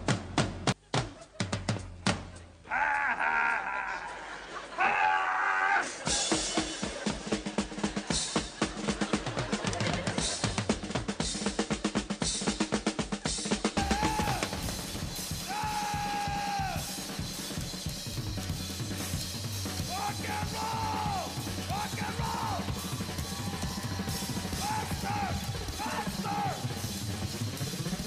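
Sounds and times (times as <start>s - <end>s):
drum kit playing: 0.0s - 2.5s, 6.0s - 28.0s.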